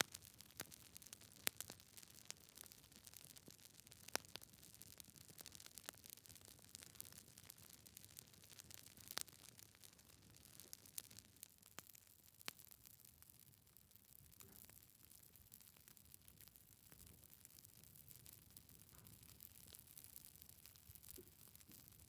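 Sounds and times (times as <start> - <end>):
log fire crackling: 0.0 - 22.0.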